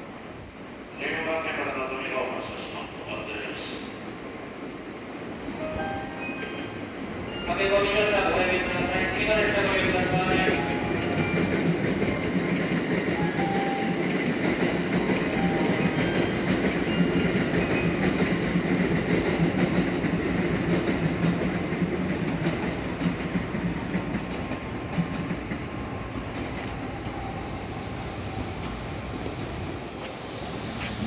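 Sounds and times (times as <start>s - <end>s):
train rumbling at a station: 0.0s - 31.0s.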